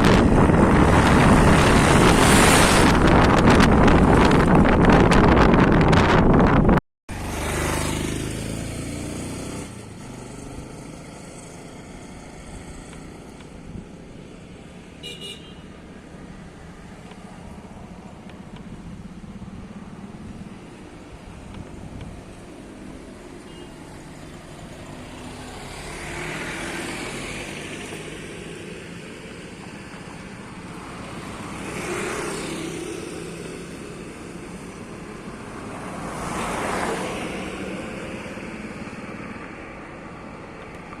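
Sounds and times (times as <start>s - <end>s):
road traffic noise: 0.0s - 41.0s
vehicles passing by: 0.0s - 41.0s.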